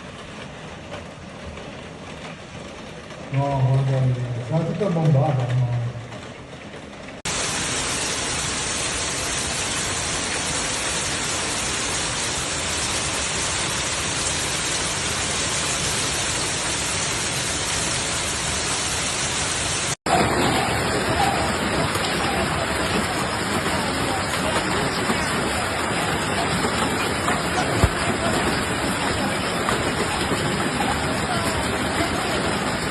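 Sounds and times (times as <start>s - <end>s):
heavy rain downpour: 0.0s - 32.9s.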